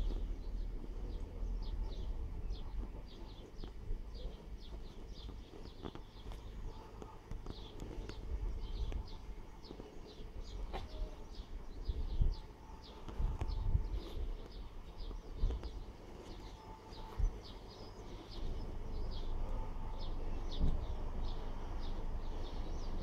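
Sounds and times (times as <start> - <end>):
low fluctuating rumble: 0.0 - 23.0.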